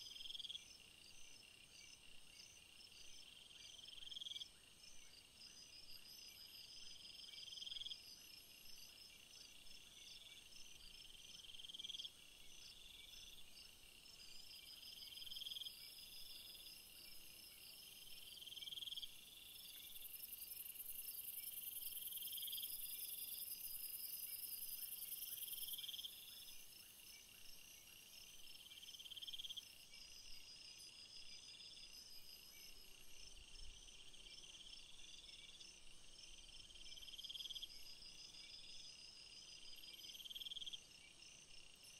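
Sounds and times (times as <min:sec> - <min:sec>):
insects chirping: 0:00.0 - 0:41.9.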